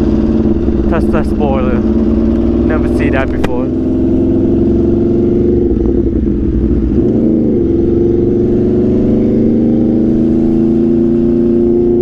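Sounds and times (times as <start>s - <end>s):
motorcycle engine at speed: 0.0s - 12.0s.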